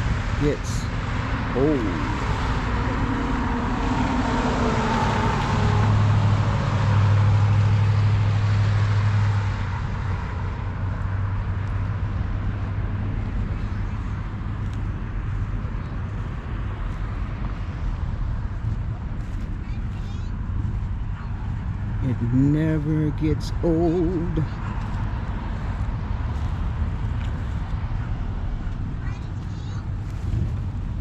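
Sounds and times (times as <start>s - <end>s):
car engine droning: 0.0s - 31.0s
traffic noise: 0.0s - 31.0s.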